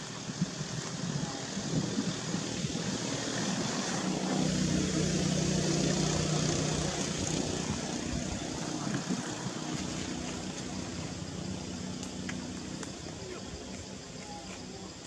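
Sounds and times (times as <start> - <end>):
distant engine hum: 0.0 - 15.0.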